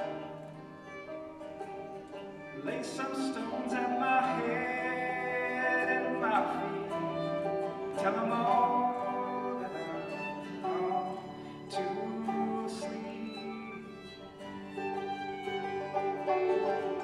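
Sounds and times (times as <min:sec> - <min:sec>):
acoustic folk ensemble: 0:00.0 - 0:17.0.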